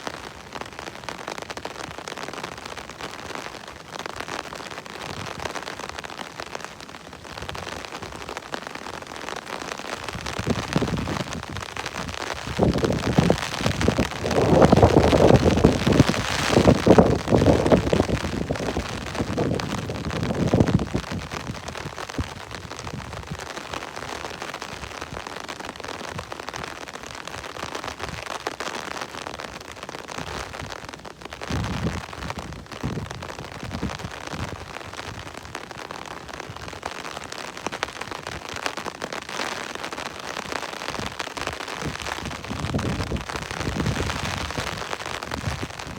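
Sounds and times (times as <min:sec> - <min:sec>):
rain pattering on surfaces: 0:00.0 - 0:45.9.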